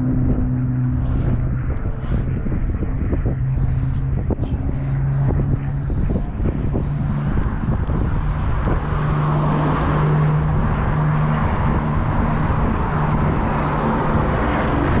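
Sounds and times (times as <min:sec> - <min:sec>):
propeller aircraft engine droning: 0:00.0 - 0:15.0
wind rumbling on microphone: 0:00.0 - 0:15.0.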